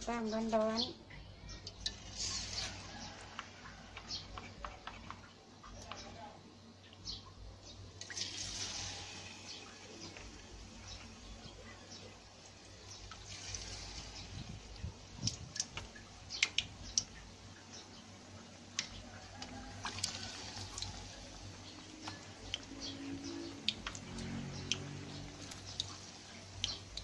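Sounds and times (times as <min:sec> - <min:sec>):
deep-frying sizzle with pops: 0:00.0 - 0:27.0.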